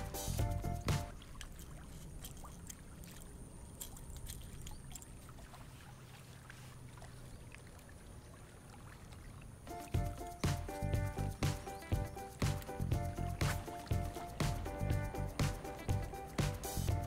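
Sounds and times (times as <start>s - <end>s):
light water splashes: 0.0s - 16.9s
low steady hum: 0.0s - 17.0s.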